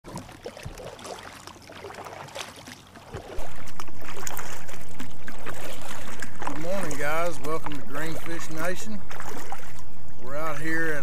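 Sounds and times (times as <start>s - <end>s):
paddle strokes in water: 0.1s - 11.0s
water drips and splashes: 0.1s - 11.0s.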